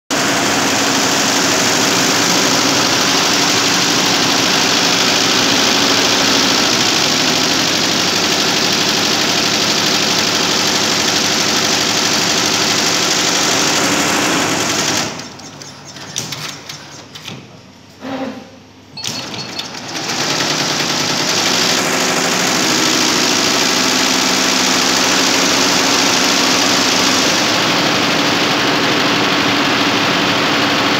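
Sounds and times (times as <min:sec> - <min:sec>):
embroidery machine stitching: 0:00.1 - 0:17.5, 0:19.0 - 0:30.9.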